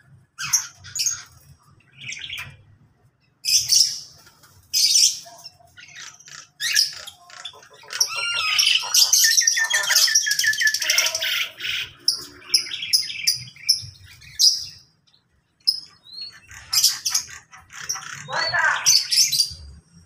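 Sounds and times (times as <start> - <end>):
caged birds calling: 0.0 - 20.0.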